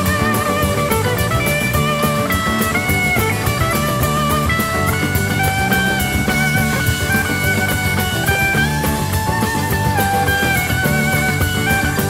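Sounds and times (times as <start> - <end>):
electric guitar melody: 0.0 - 12.0
steady drum beat: 0.0 - 12.0.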